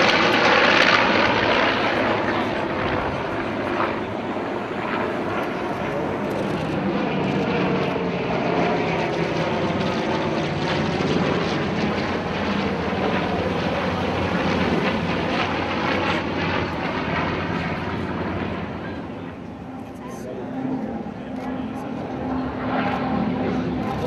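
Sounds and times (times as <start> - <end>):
aircraft radial engines flypast: 0.0 - 24.0.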